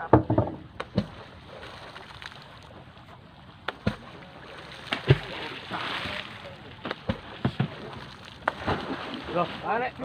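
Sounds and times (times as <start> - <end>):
water splashing against boat hull: 0.0 - 10.0
sharp water slaps: 0.7 - 2.8, 3.6 - 10.0
wind and sea hiss: 1.1 - 10.0.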